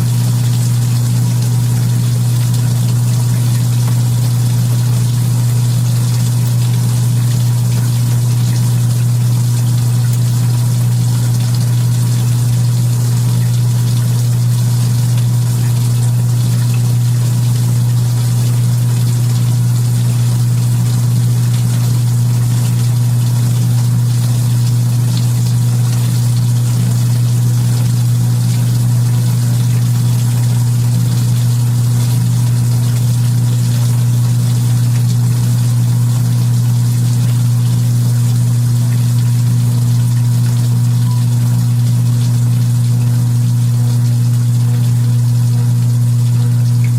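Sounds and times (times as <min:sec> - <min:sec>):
washing machine motor hum: 0:00.0 - 0:46.9.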